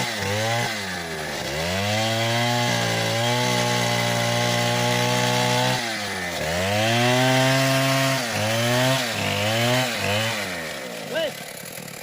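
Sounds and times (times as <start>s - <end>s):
chainsaw running at high revs: 0.0s - 12.0s.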